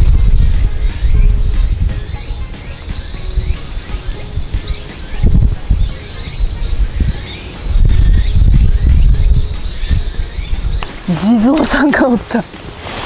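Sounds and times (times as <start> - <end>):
wind rumble on microphone: 0.0 - 11.9
insects chirping: 0.0 - 13.0.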